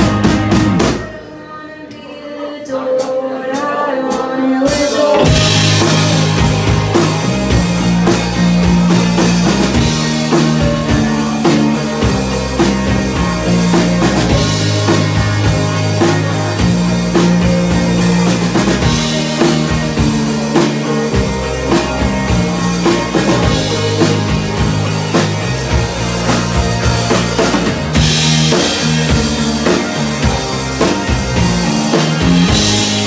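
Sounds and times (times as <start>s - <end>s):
live rock band playing: 0.0s - 1.5s, 3.5s - 33.0s.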